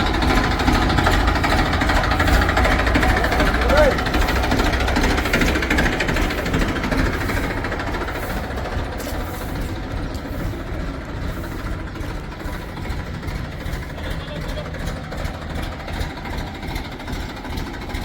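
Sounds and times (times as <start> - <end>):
knocking diesel engine running: 0.0 - 18.0.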